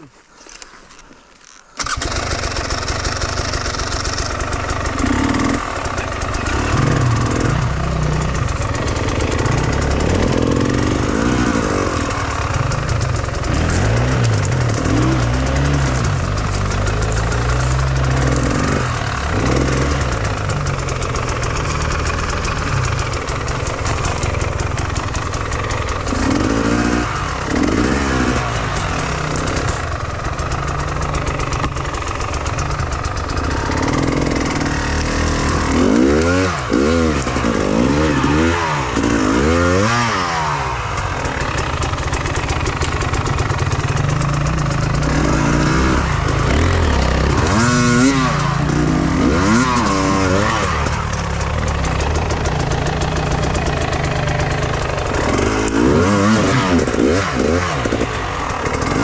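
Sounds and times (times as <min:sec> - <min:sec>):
motorcycle engine revving: 0:01.8 - 0:59.0.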